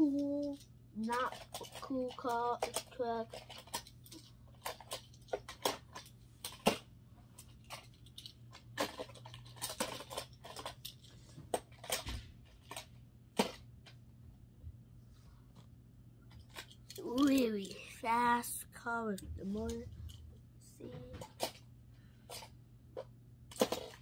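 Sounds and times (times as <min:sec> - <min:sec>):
toy cars clicking and clattering: 0:00.0 - 0:14.0, 0:16.3 - 0:20.2, 0:20.8 - 0:21.6, 0:22.3 - 0:24.0.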